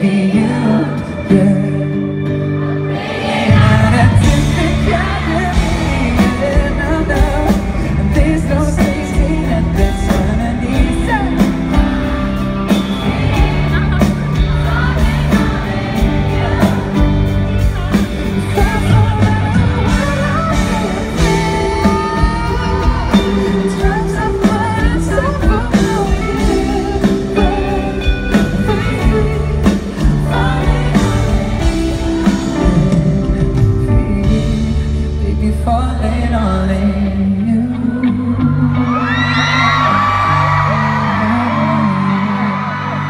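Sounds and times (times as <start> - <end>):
man singing: 0.0 - 2.5, 3.5 - 43.0
live pop band playing: 0.0 - 43.0.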